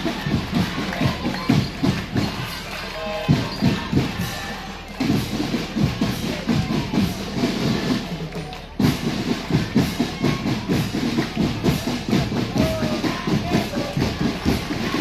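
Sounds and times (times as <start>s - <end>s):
marching drum band: 0.0s - 15.0s.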